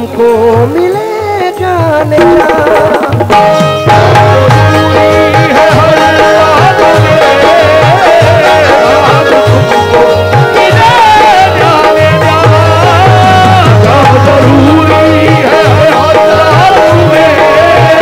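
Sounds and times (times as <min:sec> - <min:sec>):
electronic keyboard melody: 0:00.0 - 0:18.0
hand drum rhythm: 0:00.0 - 0:18.0
harmonium held tones: 0:02.8 - 0:18.0.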